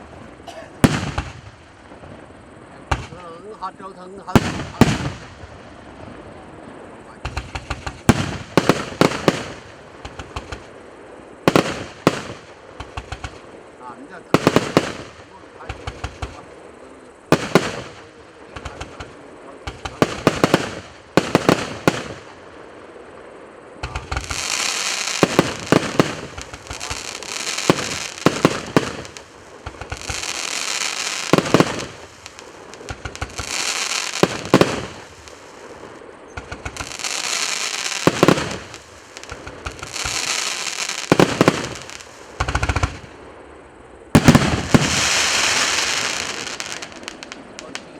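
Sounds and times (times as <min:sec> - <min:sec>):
fireworks crackling hiss: 0:00.0 - 0:47.9
fireworks launch and burst bangs: 0:00.0 - 0:47.9.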